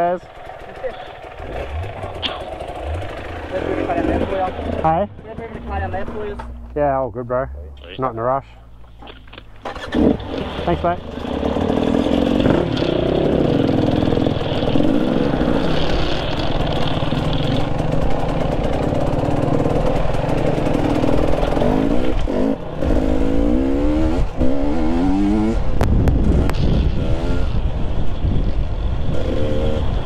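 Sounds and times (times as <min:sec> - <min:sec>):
dirt bike engine revving: 0:00.0 - 0:06.8, 0:09.6 - 0:30.0.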